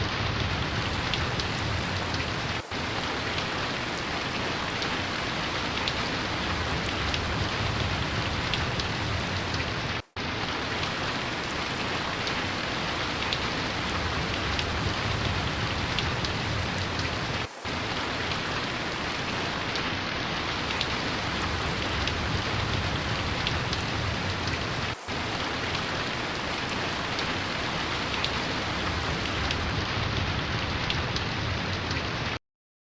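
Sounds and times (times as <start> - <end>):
rain falling steadily: 0.0 - 32.4.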